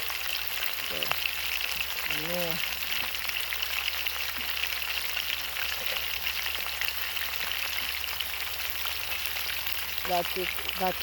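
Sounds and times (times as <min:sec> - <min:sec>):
chicken sizzling in a pot: 0:00.0 - 0:11.0
oil popping: 0:00.0 - 0:11.0.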